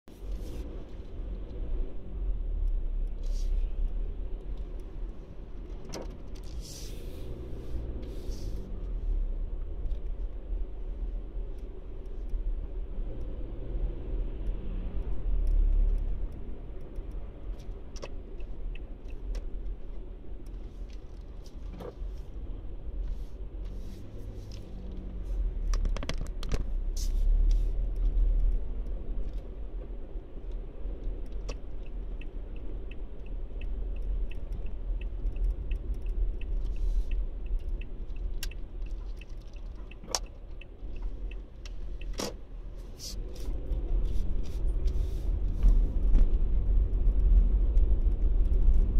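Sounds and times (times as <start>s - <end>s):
car engine and road rumble: 0.0s - 48.9s
turn signal ticking: 0.3s - 6.6s, 7.3s - 48.9s.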